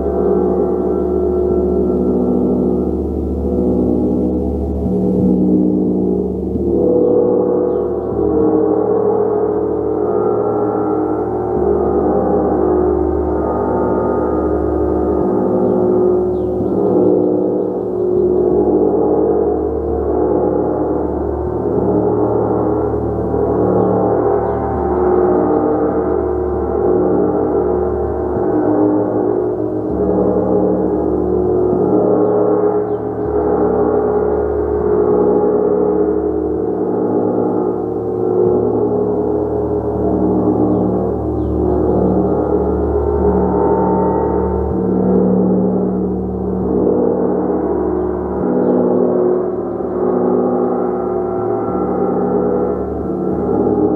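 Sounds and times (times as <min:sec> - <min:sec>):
gong sustained tones: 0:00.0 - 0:53.9.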